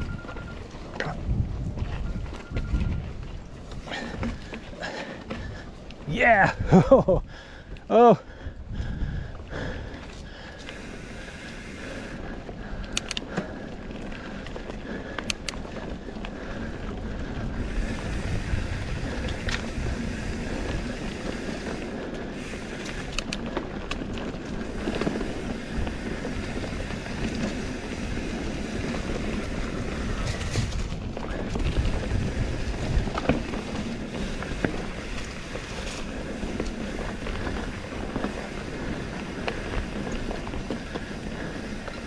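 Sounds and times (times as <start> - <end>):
bike clicks and rattles: 0.0 - 42.0
tyres rumbling on dirt trail: 0.0 - 42.0
wind buffeting microphone: 0.0 - 42.0.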